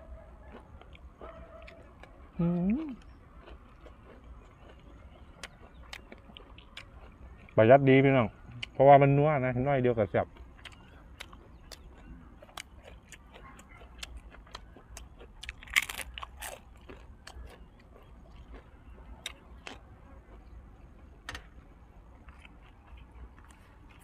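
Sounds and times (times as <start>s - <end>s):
chewing and crunching: 0.0s - 24.0s.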